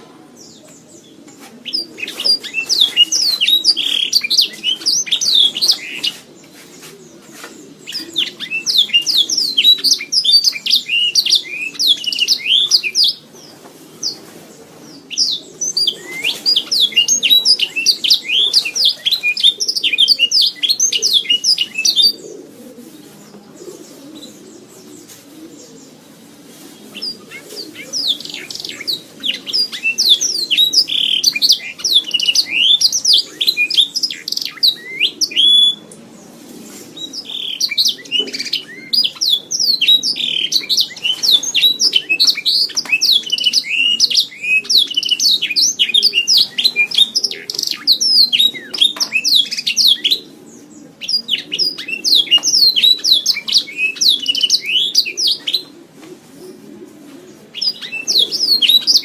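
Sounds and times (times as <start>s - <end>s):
canary singing: 0.0s - 22.8s, 26.9s - 35.9s, 37.0s - 55.8s, 57.4s - 59.0s.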